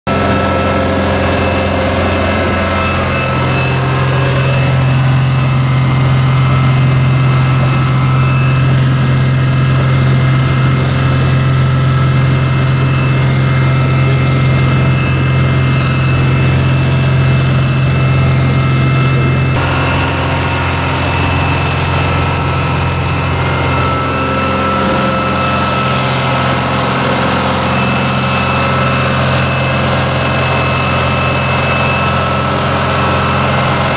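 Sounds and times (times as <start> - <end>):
boat diesel engine droning: 0.0 - 33.9
water rushing along hull: 0.1 - 33.9.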